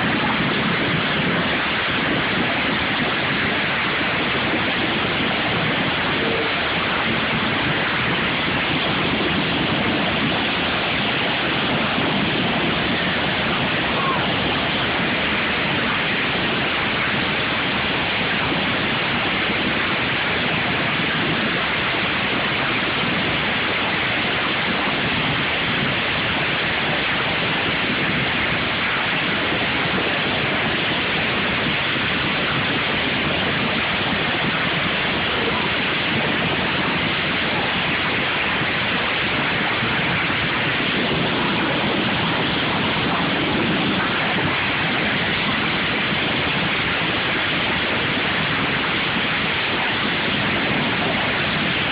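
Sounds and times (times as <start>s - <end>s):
many lawn mower engines running: 0.0s - 23.8s, 24.4s - 49.1s.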